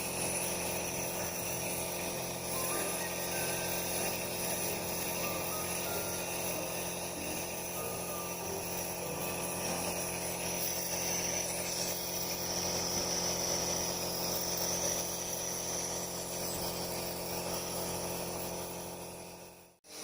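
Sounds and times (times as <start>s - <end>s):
nebulizer compressor humming: 0.0s - 20.0s.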